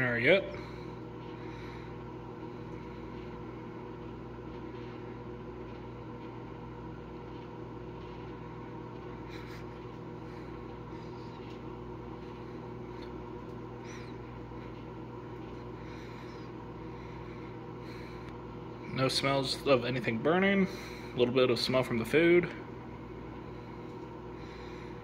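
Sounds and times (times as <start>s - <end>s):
microwave fan drone: 0.0s - 25.0s
microwave oven humming: 0.0s - 25.0s.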